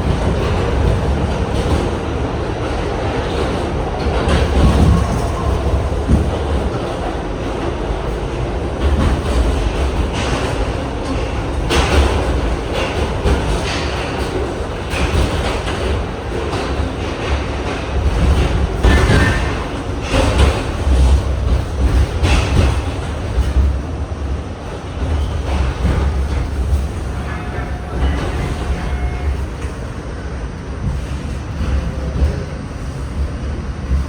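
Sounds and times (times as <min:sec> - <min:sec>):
wheels clacking over rail joints: 0:00.0 - 0:29.9
subway train rumbling on rails: 0:00.0 - 0:34.0.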